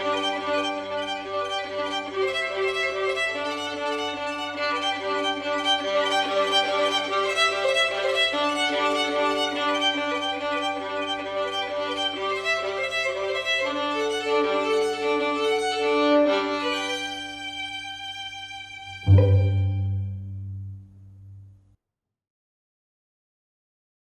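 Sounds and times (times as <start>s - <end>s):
string quintet playing classical music: 0.0s - 20.8s.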